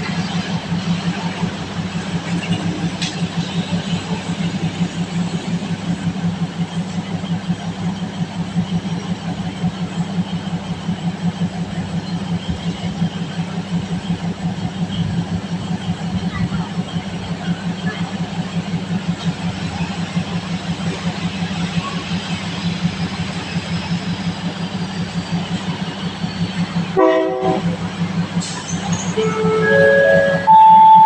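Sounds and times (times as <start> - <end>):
diesel train engine idling: 0.0 - 31.0.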